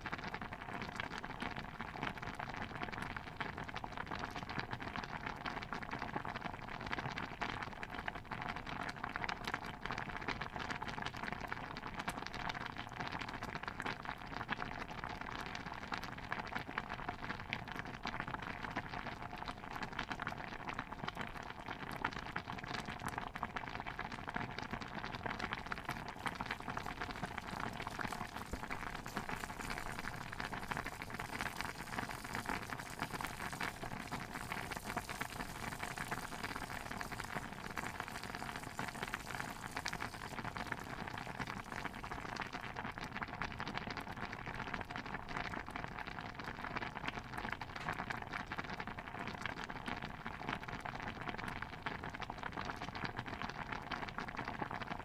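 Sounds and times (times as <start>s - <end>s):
stew bubbling at a boil: 0.0s - 55.0s.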